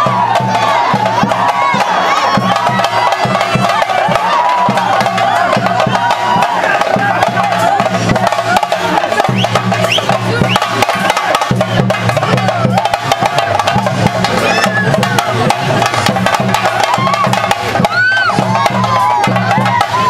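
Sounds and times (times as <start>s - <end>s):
crowd shouting: 0.0s - 20.0s
fast drumming: 0.0s - 20.0s.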